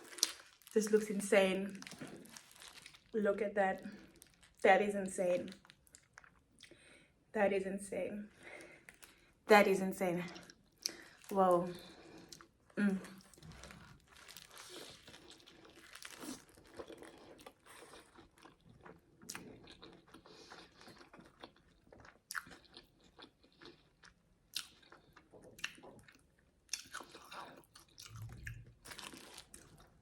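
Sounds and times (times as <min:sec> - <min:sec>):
chewing crunchy food: 0:00.0 - 0:00.8, 0:01.7 - 0:03.2, 0:03.9 - 0:04.6, 0:05.5 - 0:06.9, 0:10.3 - 0:30.0.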